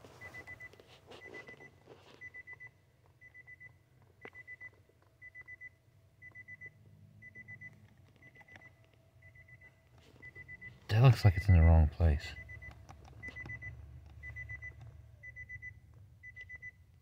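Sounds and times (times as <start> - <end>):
car warning chime beeping: 0.2 - 17.0.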